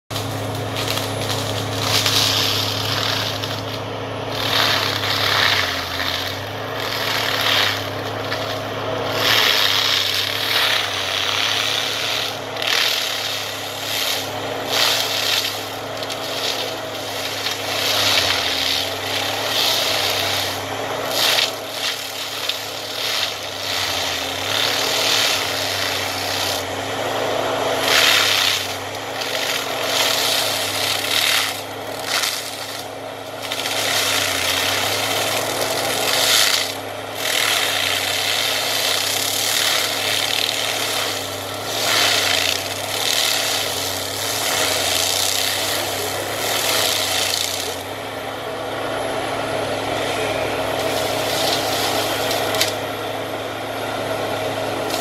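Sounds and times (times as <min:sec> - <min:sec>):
excavator engine running: 0:00.0 - 0:55.0
mulcher shredding brush: 0:00.0 - 0:55.0.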